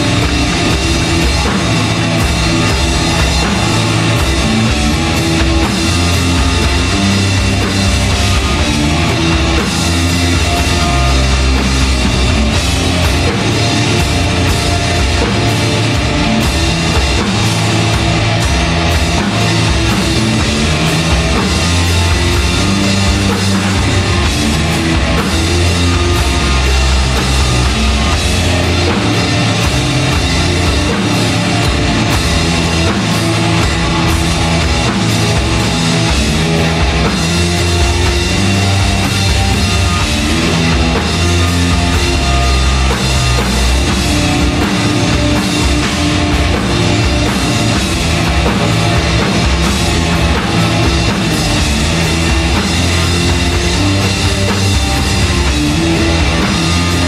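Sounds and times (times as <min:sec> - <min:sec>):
bass guitar riffs: 0:00.0 - 0:57.0
distorted electric guitar: 0:00.0 - 0:57.0
drum kit: 0:00.0 - 0:57.0.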